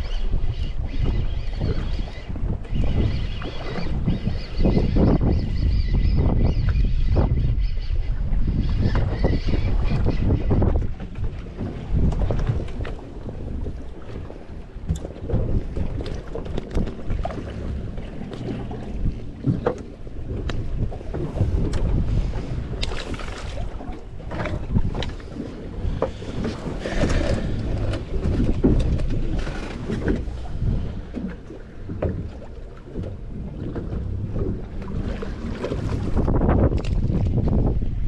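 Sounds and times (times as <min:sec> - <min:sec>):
water against boat hull: 0:00.0 - 0:38.0
wind buffeting microphone: 0:00.0 - 0:38.0.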